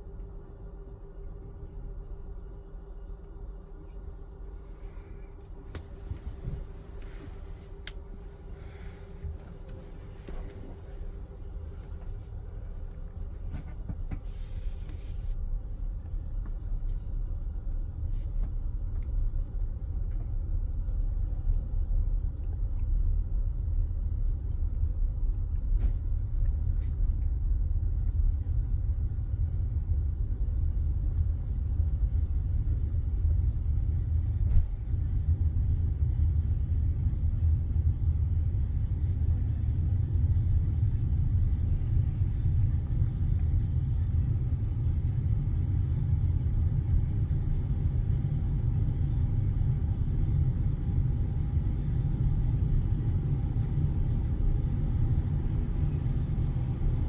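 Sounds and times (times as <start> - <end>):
train carriage rumbling on track: 0.0 - 57.0.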